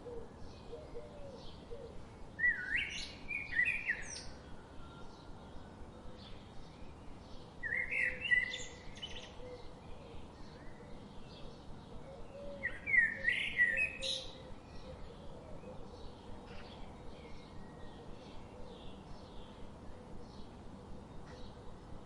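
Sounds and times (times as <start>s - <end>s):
bird warbling song: 0.0s - 20.6s
faint bird chirping: 0.0s - 22.0s.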